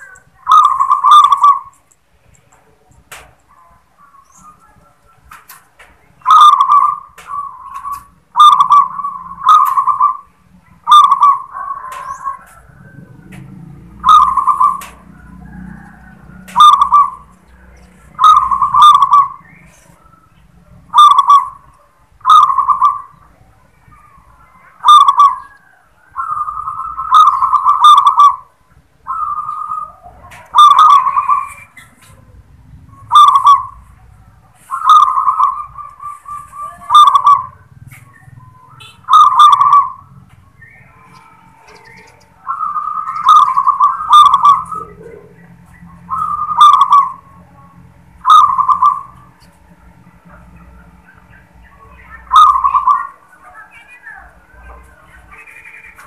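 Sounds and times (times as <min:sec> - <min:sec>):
dove cooing: 0:00.0 - 0:01.9, 0:02.6 - 0:56.0.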